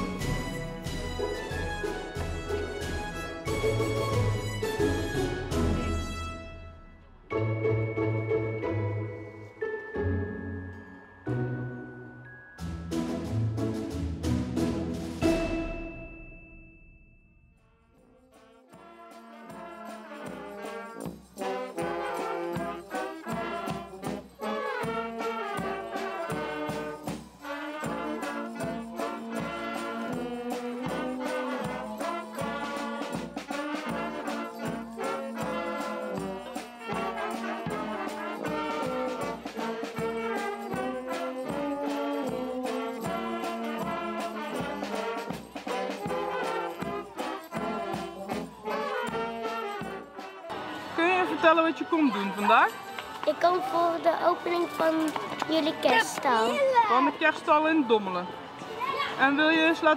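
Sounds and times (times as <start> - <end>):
brass instruments playing music: 0.0 - 15.9, 17.7 - 57.2.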